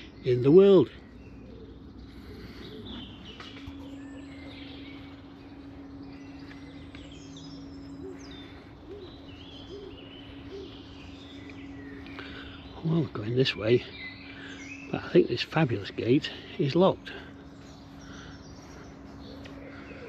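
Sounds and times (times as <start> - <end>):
low cooing notes: 0.0 - 17.5
faint low hum: 0.0 - 20.0
small birds chirping and trilling: 0.0 - 20.0.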